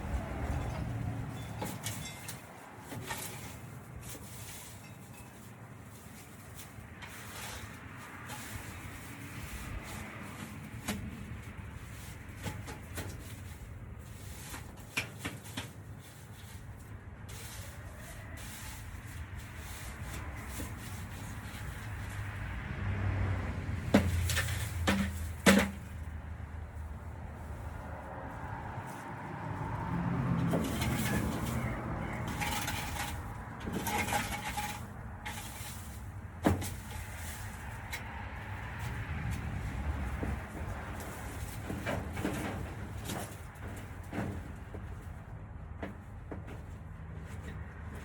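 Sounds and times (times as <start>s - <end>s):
pooper scooper scraping ground: 0.0s - 23.0s, 23.8s - 45.2s.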